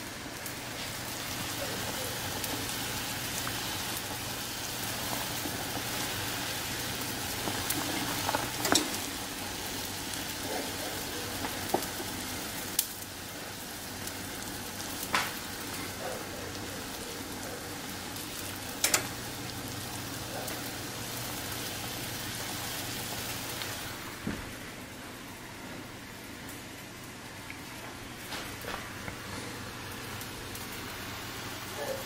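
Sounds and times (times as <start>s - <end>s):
soup boiling with bubbling hiss: 0.0s - 31.8s.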